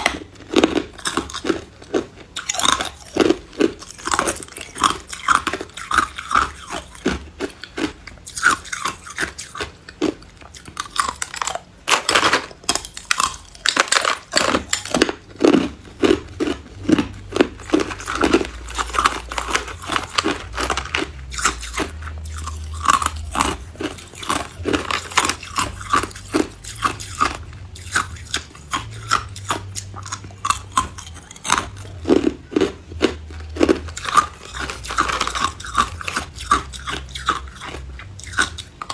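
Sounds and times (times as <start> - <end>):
faint low hum: 0.0 - 38.9
ice cubes crunching: 0.0 - 38.9.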